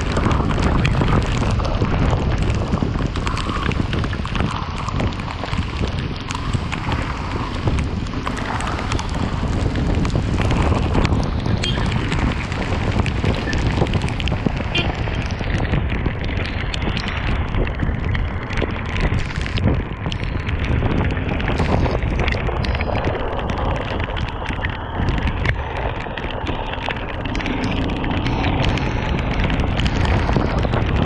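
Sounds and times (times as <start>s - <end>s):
raindrops ticking on microphone: 0.0s - 31.0s
wind rushing over microphone: 0.0s - 31.0s.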